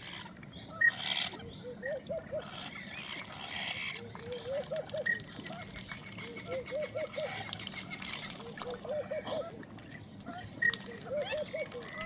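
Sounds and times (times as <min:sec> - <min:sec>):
ducks dabbling in water: 0:00.0 - 0:12.0.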